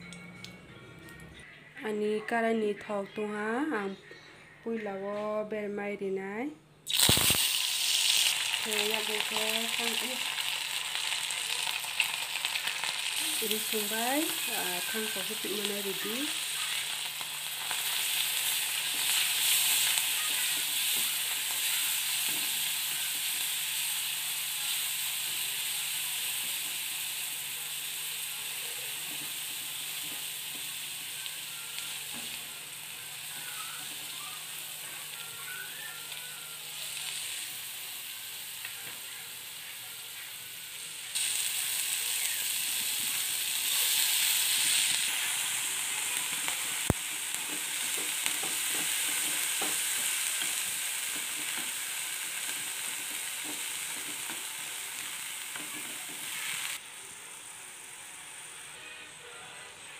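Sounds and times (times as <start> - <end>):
oil sizzling in a wok: 6.9 - 59.4.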